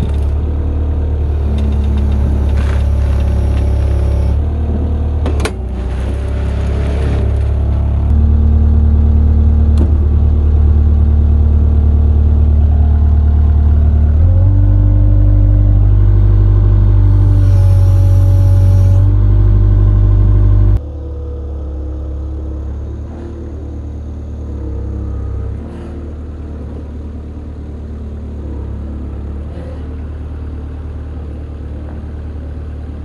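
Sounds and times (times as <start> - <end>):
diesel loader engine under load: 0.0 - 33.0.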